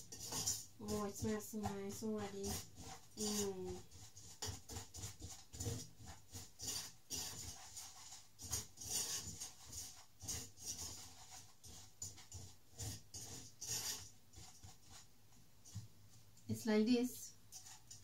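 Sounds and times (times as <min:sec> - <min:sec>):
wooden spoon scraping saucepan: 0:00.0 - 0:18.0.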